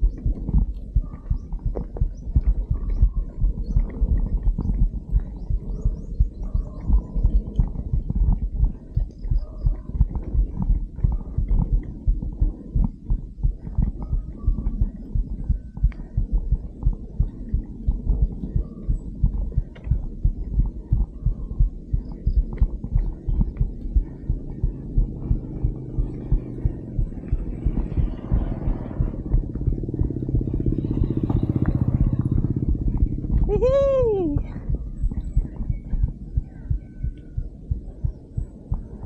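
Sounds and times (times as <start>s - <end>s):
dull low thumps: 0.0s - 39.0s
low hum: 0.0s - 39.0s.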